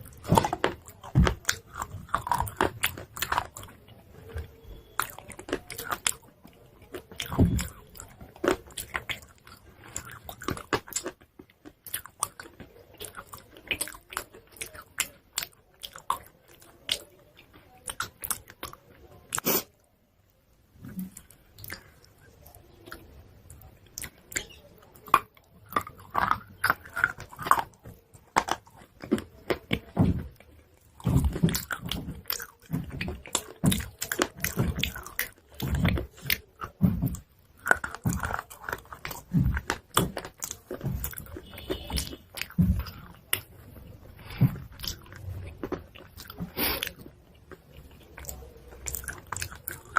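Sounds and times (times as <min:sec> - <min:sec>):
chewing chalk crunches: 0:00.0 - 0:19.8, 0:20.8 - 0:49.9.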